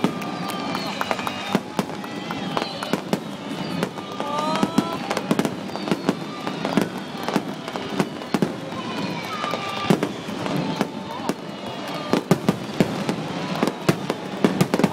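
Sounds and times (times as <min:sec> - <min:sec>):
fireworks bangs and crackles: 0:00.0 - 0:14.9.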